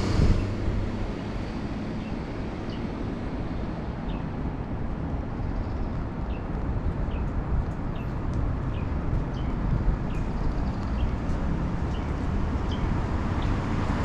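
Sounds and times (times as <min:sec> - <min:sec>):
wind and road noise rumble: 0:00.0 - 0:14.0.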